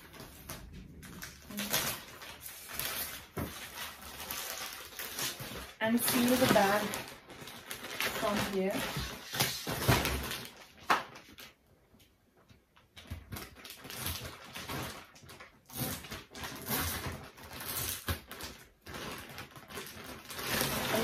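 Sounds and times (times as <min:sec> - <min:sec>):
plastic bag crinkling: 0:00.0 - 0:11.6, 0:13.0 - 0:21.0.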